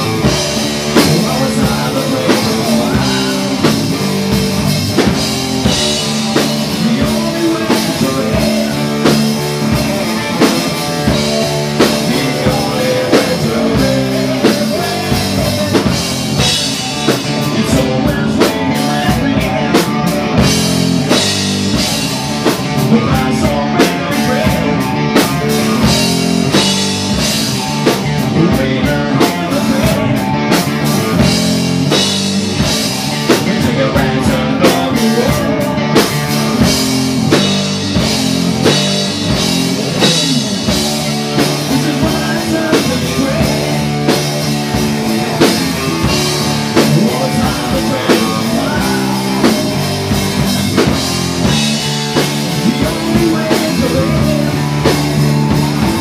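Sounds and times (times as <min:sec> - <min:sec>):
rock band playing: 0:00.0 - 0:56.0.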